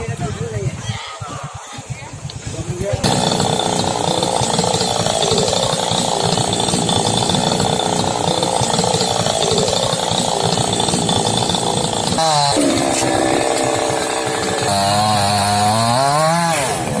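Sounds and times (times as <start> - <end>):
two-stroke chainsaw running: 2.5 - 17.0.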